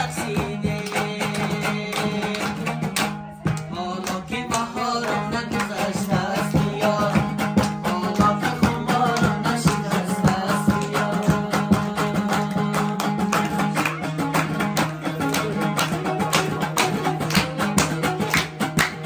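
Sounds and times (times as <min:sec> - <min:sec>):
lute strummed fast: 0:00.0 - 0:19.0
man singing: 0:00.0 - 0:19.0
people clapping in rhythm: 0:00.0 - 0:19.0.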